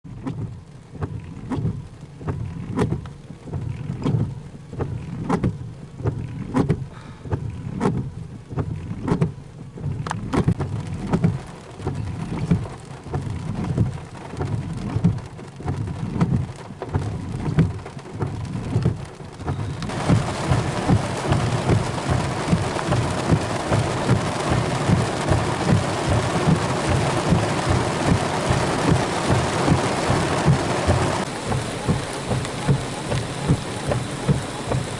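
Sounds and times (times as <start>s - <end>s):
rain: 0.1s - 34.9s.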